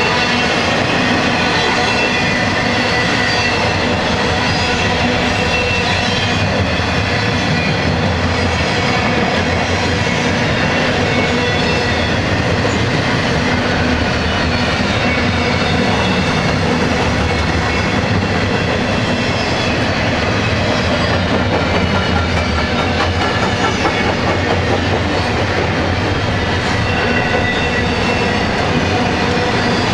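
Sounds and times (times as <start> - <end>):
train wheels rolling on rails: 0.0 - 29.9.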